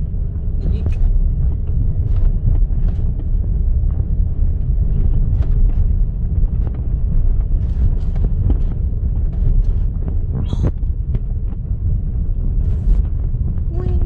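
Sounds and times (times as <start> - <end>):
low rumble of tyres and engine: 0.0 - 14.0.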